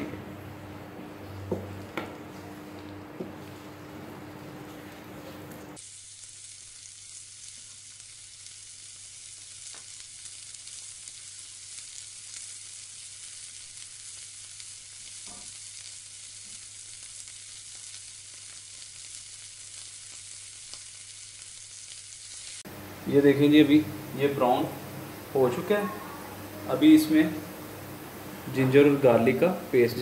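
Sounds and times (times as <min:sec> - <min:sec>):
onions sizzling in hot oil: 0:05.6 - 0:30.0.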